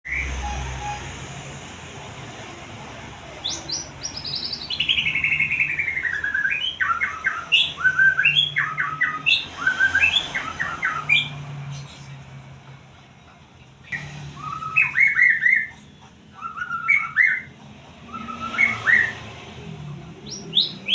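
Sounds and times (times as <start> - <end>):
songbird singing: 0.1 - 1.5, 2.8 - 12.4, 13.2 - 19.3, 20.0 - 20.9.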